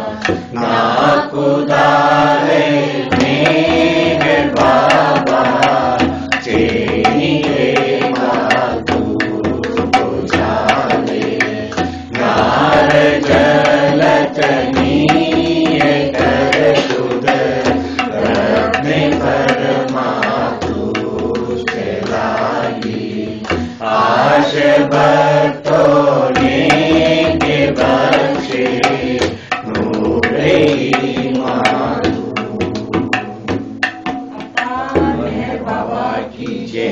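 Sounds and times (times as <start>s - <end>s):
rhythmic percussive beats: 0.0s - 36.9s
voices singing devotional song: 0.0s - 36.9s.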